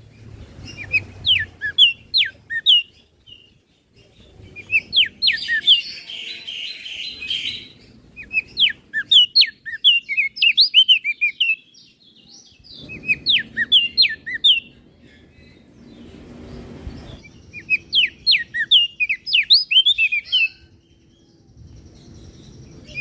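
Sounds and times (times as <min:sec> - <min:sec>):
bird singing whistled notes: 0:00.0 - 0:23.0.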